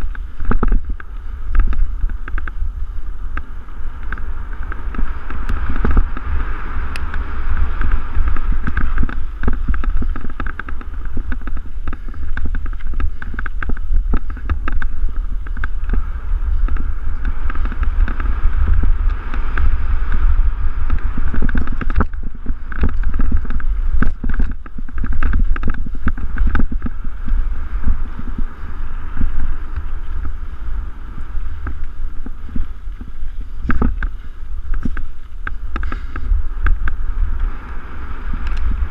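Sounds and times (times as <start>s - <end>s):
bike clicks and rattles: 0.0s - 38.9s
bike tyres on dirt: 0.0s - 38.9s
wind rumble on microphone: 0.0s - 38.9s.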